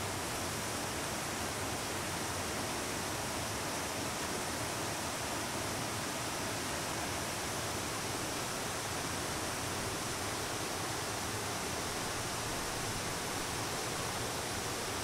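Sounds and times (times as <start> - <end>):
stream flowing over rocks: 0.1 - 15.0.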